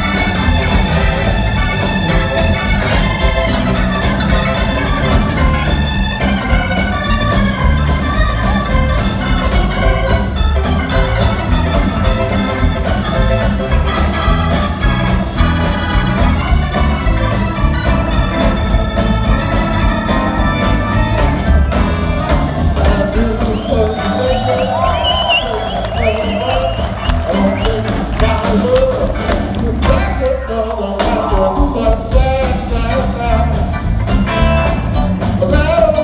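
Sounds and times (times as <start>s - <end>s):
drums steady beat: 0.0s - 36.0s
live blues band: 0.0s - 36.0s
organ lead: 0.0s - 36.0s.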